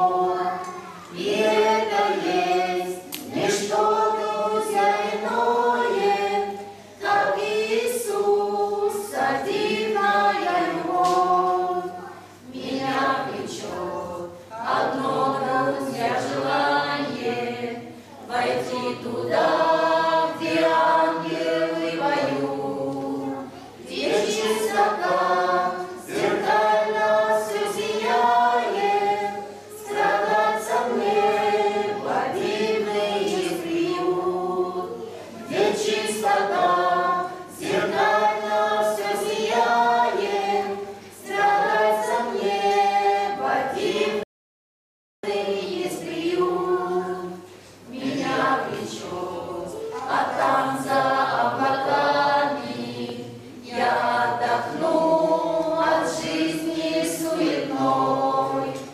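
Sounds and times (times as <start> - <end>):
mixed choir singing a hymn: 0.0 - 44.3, 45.2 - 58.9.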